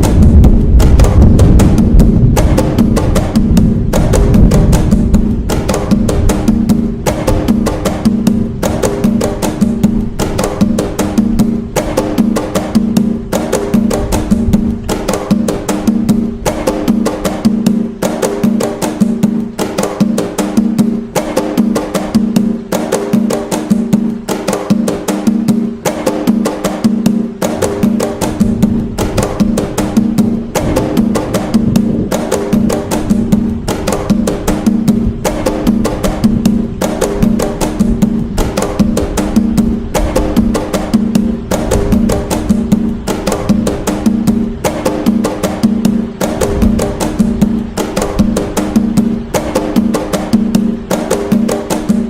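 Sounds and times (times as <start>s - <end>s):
hand drum fast rhythm: 0.0s - 52.0s.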